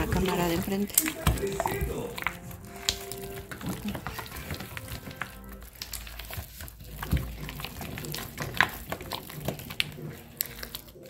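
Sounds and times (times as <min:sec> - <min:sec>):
hand squelching and slapping in fat: 0:00.0 - 0:11.0.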